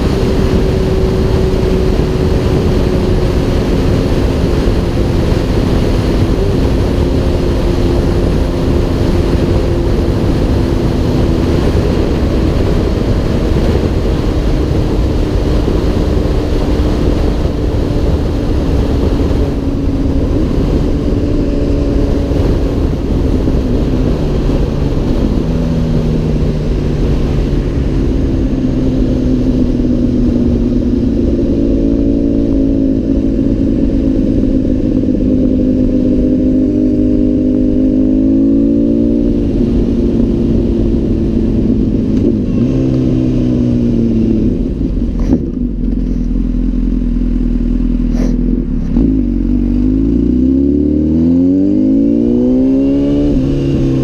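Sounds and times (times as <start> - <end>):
wind rush: 0.0 - 46.1, 48.0 - 54.0
motorcycle engine: 0.0 - 54.0.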